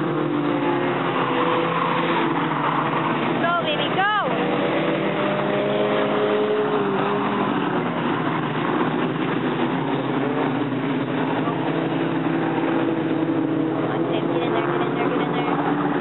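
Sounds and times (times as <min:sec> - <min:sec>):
racing car engines droning: 0:00.0 - 0:16.0.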